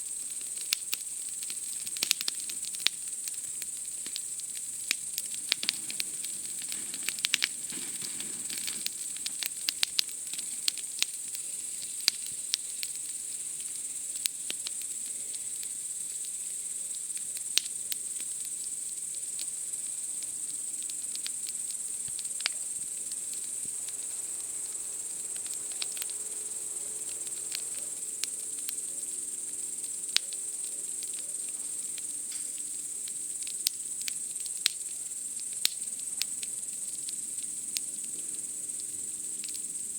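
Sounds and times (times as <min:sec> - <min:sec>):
campfire crackling: 0:00.0 - 0:39.9
night insects chorus: 0:00.0 - 0:39.9.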